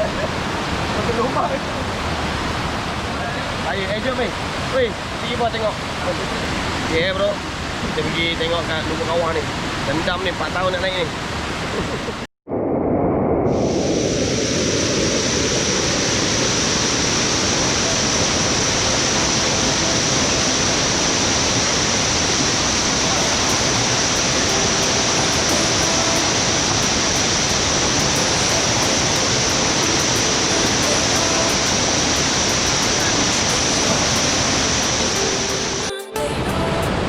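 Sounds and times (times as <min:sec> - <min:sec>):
waterfall roaring: 0:00.0 - 0:12.3, 0:14.1 - 0:37.0.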